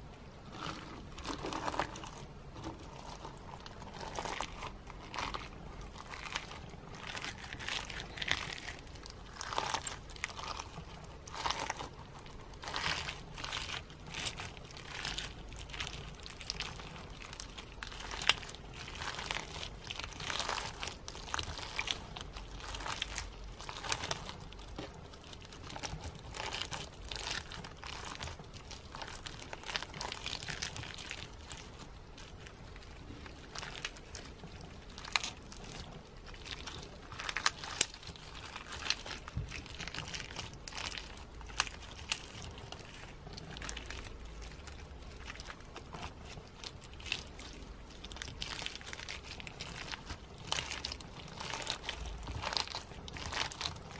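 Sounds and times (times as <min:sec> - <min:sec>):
slime crunching and crinkling: 0:00.0 - 0:53.9.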